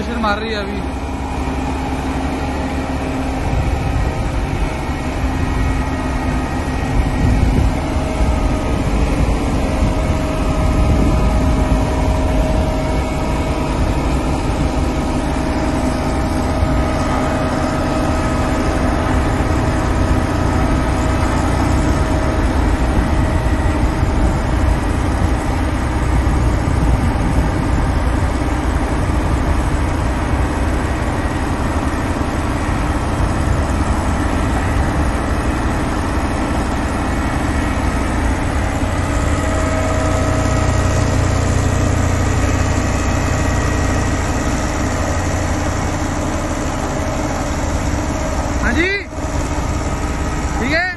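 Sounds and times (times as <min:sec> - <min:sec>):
diesel engine running: 0:00.0 - 0:50.9
low drone of vibrating drum: 0:00.0 - 0:50.9.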